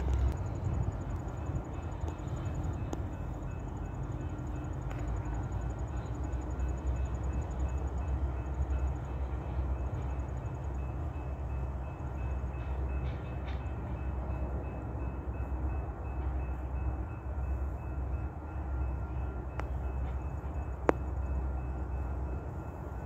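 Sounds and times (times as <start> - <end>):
freight train rumbling: 0.0 - 23.0.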